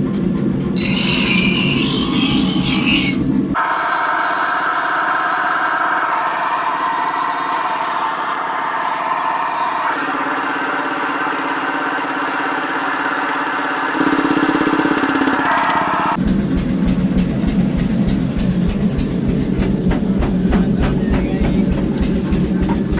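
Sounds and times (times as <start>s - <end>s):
motor-driven machine running: 0.8s - 22.9s.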